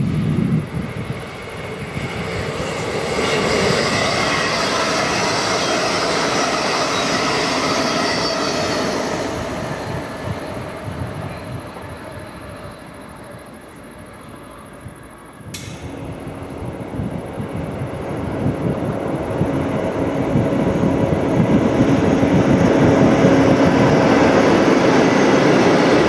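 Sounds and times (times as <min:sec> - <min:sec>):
train passing: 0:00.0 - 0:26.0.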